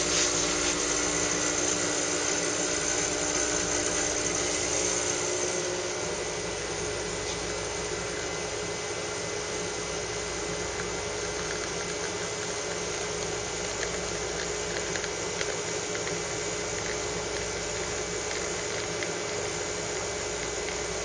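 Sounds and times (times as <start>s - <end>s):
espresso steam wand hissing: 0.0s - 21.0s.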